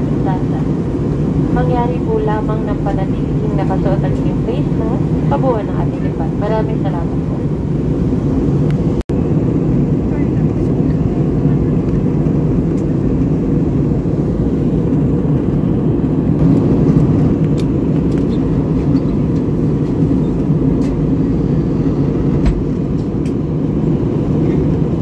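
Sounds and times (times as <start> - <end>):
jet airliner cabin roar: 0.0 - 25.0.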